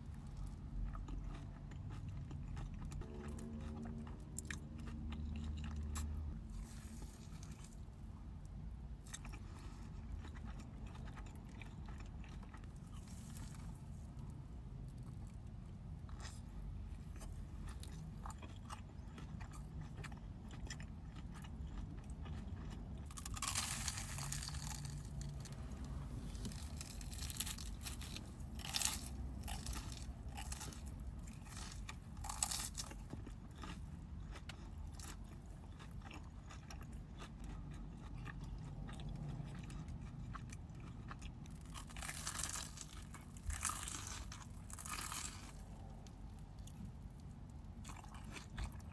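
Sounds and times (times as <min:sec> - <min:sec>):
person biting and chewing crunchy food: 0:00.0 - 0:48.9.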